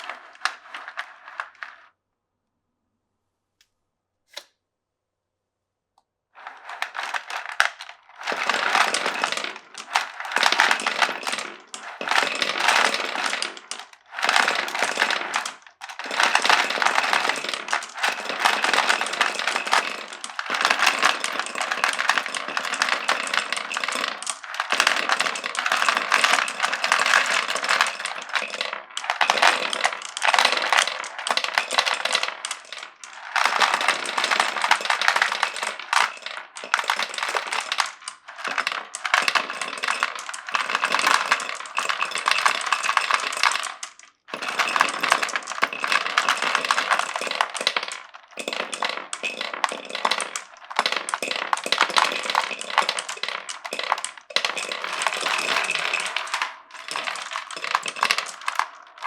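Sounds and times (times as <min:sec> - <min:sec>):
marbles rolling down wooden run: 0:00.0 - 0:01.8, 0:06.4 - 0:59.0.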